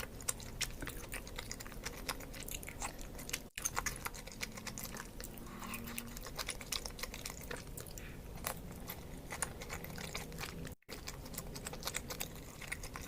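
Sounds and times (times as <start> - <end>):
close chewing with wet mouth clicks: 0.0 - 13.0.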